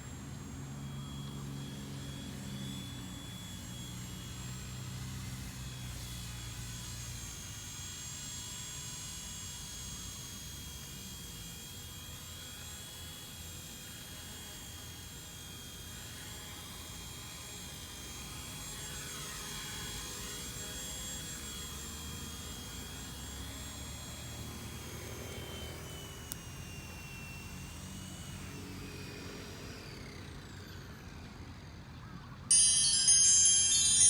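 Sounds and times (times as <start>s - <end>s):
rc helicopter motor whine: 0.0s - 31.9s.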